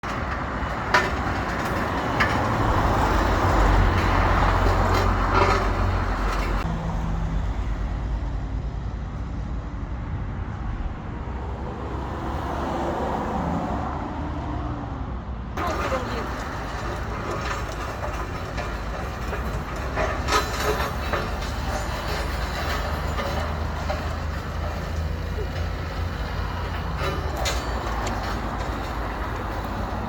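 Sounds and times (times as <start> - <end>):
road traffic passing: 0.0 - 30.0
vehicle with deep rumble passing: 0.0 - 30.0.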